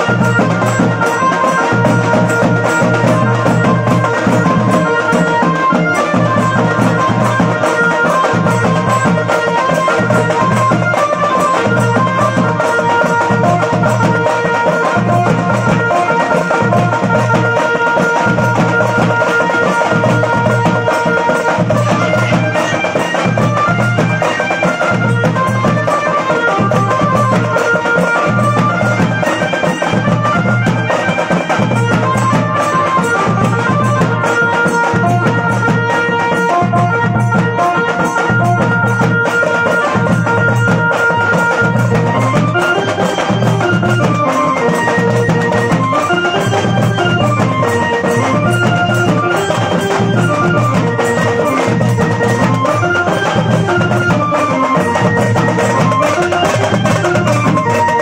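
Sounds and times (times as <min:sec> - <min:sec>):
bass drums and tasha drums beat: 0:00.0 - 0:58.0
cymbals: 0:00.0 - 0:58.0
keyboard reedy melody: 0:00.0 - 0:58.0.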